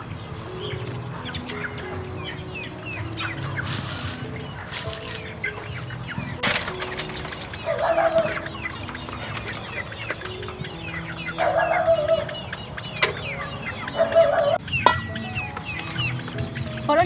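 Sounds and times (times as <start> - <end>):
chickens clucking: 0.0 - 17.0
thin high chirping: 0.6 - 17.0.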